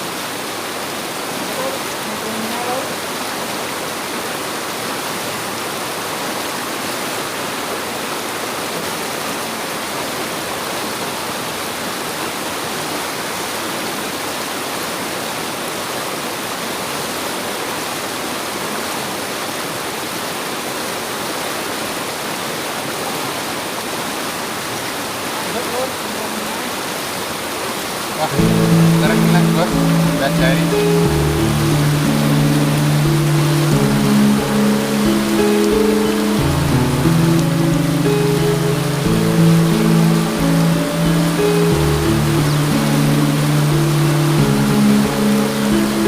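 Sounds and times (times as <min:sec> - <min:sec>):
river water flowing: 0:00.0 - 0:46.0.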